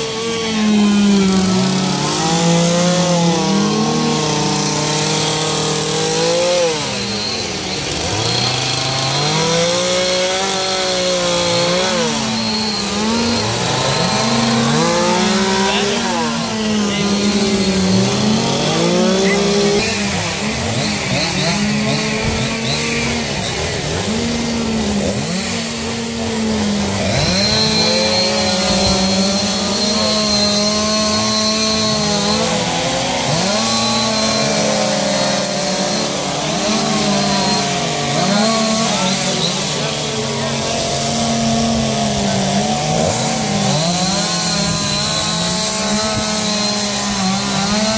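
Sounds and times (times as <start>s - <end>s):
chainsaws revving: 0.0s - 47.9s.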